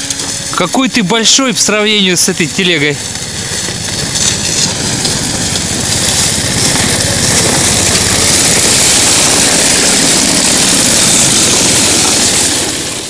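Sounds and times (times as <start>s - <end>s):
sleds hissing over snow: 0.0s - 13.0s
small engine humming: 0.0s - 13.0s.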